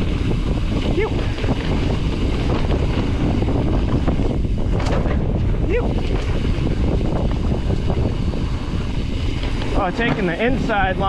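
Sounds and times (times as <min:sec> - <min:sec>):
tyres rattling over dirt trail: 0:00.0 - 0:11.0
wind buffeting microphone: 0:00.0 - 0:11.0.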